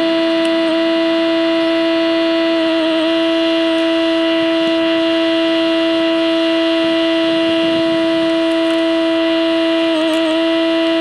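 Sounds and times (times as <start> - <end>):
high-pitched hydraulic whine: 0.0 - 11.0.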